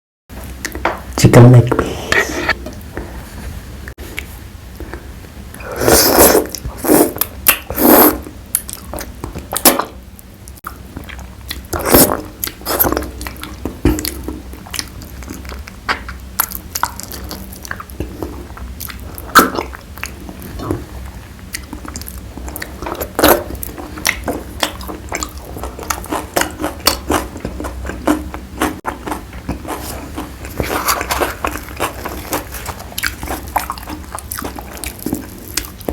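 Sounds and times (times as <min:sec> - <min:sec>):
wet chewing and mouth smacks: 0:06.4 - 0:07.9, 0:08.5 - 0:35.9.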